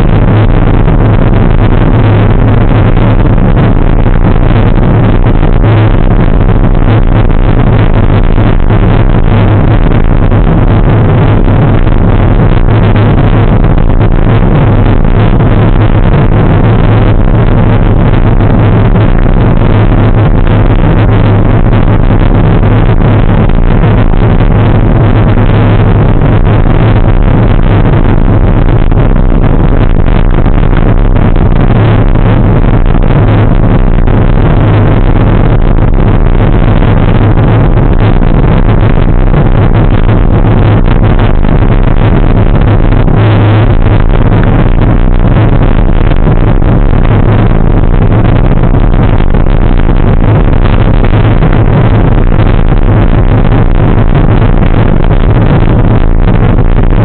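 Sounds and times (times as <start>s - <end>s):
loud wind rumble on microphone: 0.0s - 57.0s.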